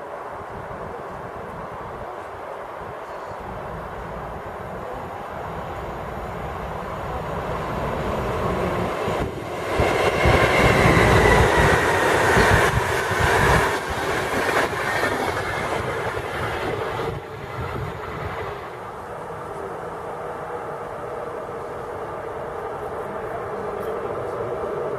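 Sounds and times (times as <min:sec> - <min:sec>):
train rumbling over rails: 0:00.0 - 0:24.9.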